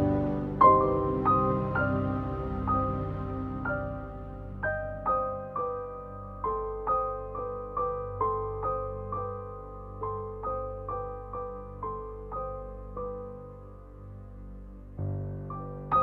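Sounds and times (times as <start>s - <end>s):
soft piano notes: 0.0s - 16.0s.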